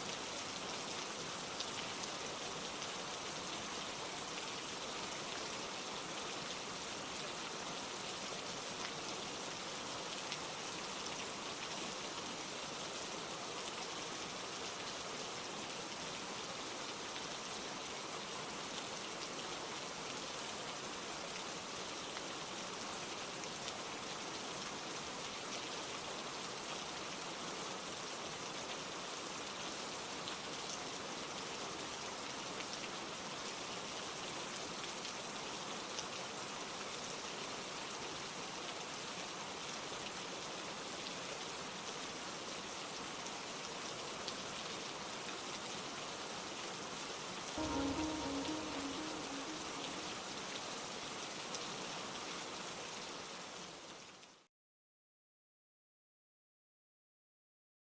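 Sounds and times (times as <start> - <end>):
steady rain falling: 0.0 - 54.5.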